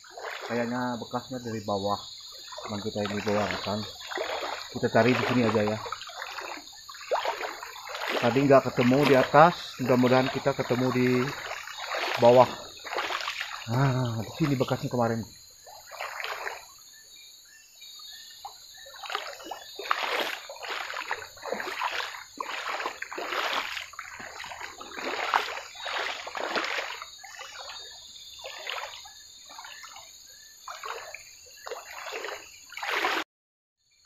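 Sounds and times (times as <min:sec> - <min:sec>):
footsteps splashing through water: 0:00.0 - 0:16.7, 0:18.3 - 0:33.2
forest insects droning: 0:00.0 - 0:33.2.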